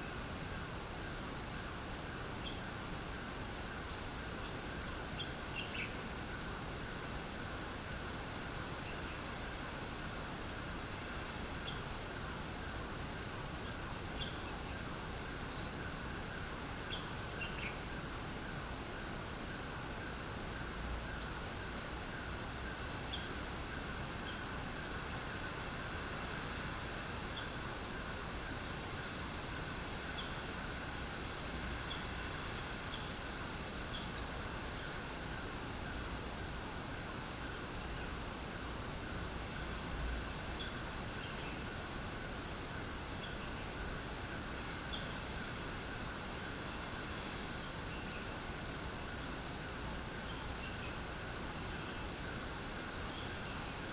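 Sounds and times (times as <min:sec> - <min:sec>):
insect trill: 0:00.0 - 0:53.9
light rain hissing: 0:00.0 - 0:53.9.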